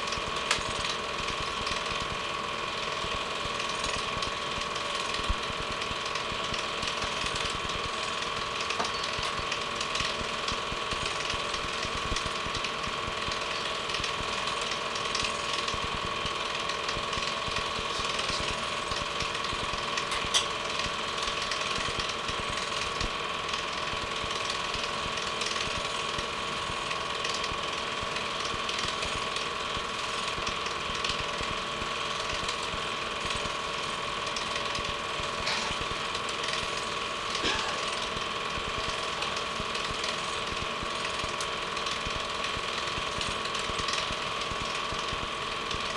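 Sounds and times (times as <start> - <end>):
film projector whirring and clattering: 0.0 - 45.9.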